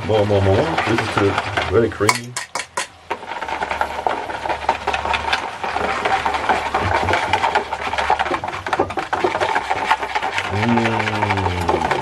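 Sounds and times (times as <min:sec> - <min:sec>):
whisk beating eggs in bowl: 0:00.1 - 0:12.0.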